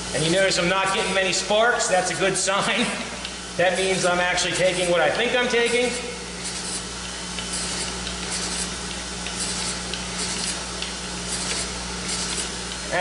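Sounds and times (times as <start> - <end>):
grinder wheel humming: 2.5 - 13.0.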